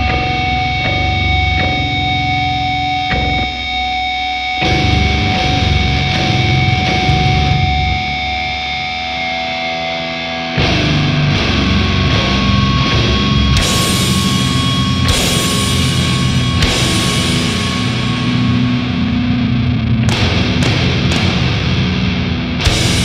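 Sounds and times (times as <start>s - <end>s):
extreme metal music: 0.0s - 23.0s.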